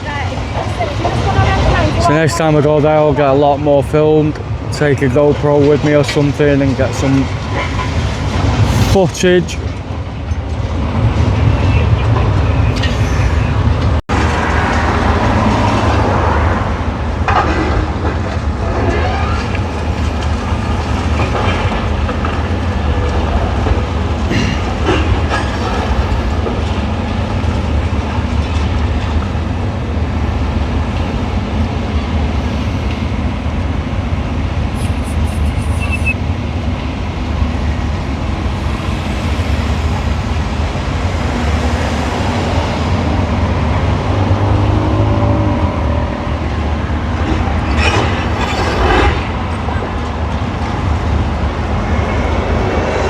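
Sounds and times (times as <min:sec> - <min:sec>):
diesel machinery rumble: 0:00.0 - 0:53.0.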